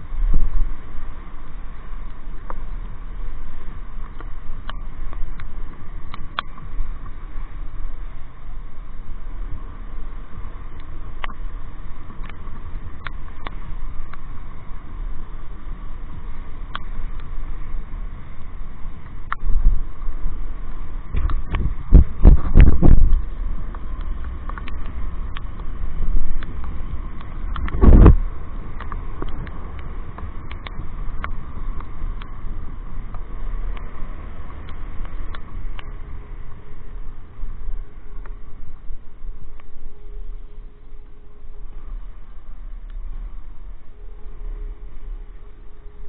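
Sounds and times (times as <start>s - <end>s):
motorcycle engine rumble: 0.0s - 46.0s
wind on microphone: 0.0s - 46.0s
sharp ticks hitting microphone: 1.4s - 7.2s, 10.6s - 14.7s, 16.6s - 17.4s, 18.3s - 19.8s, 21.0s - 45.9s.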